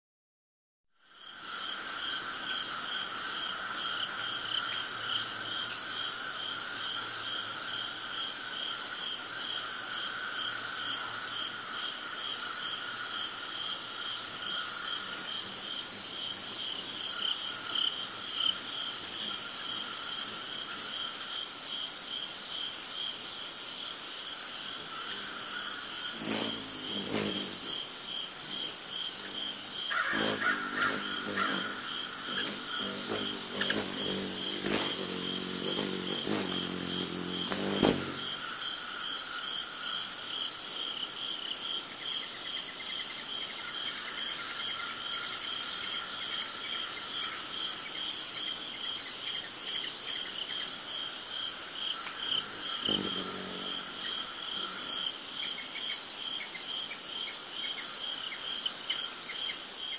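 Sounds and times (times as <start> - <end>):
insects trilling: 1.0 - 59.9.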